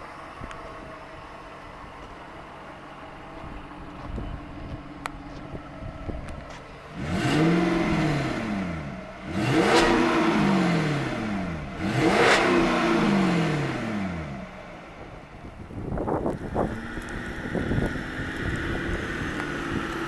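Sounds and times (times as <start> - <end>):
car engine revving: 1.0 - 20.0.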